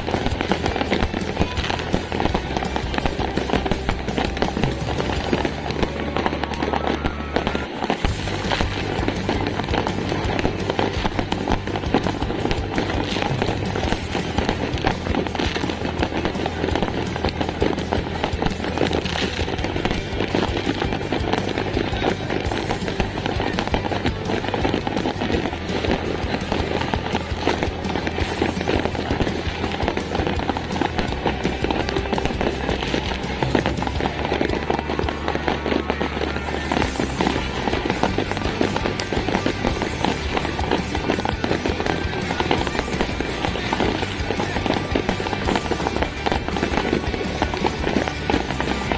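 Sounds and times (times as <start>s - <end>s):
fireworks and firecrackers popping: 0.0s - 48.9s
music playing: 0.0s - 48.9s.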